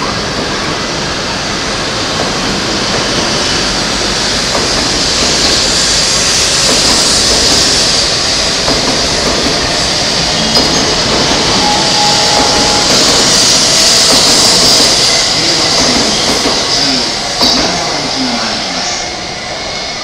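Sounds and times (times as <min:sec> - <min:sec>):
train rushing past: 0:00.0 - 0:20.0
train hiss: 0:00.1 - 0:20.0.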